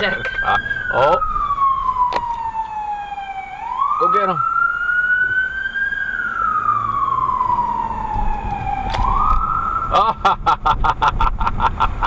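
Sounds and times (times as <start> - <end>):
police siren wailing and yelping: 0.0 - 10.8
low road rumble: 0.0 - 12.0.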